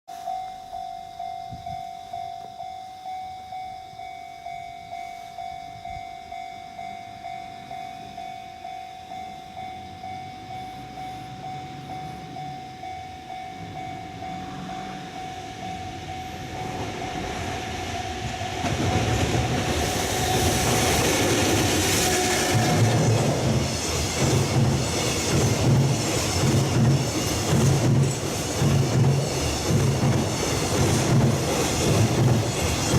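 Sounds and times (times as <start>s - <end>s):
level-crossing warning bell: 0.1s - 32.9s
freight train rumble and wheel noise: 0.2s - 32.9s.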